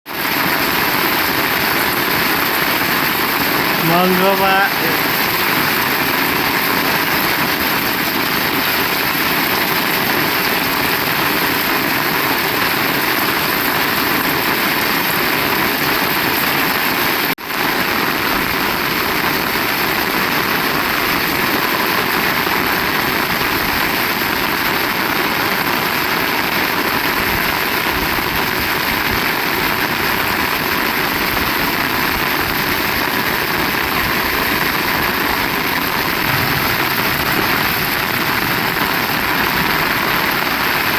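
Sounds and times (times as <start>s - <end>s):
heavy rain hissing: 0.2s - 16.7s, 17.7s - 40.9s.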